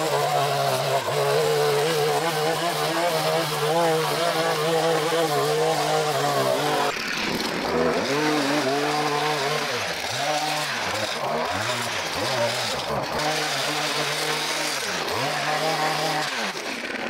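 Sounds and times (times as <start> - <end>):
string trimmer engine revving: 0.0 - 17.0.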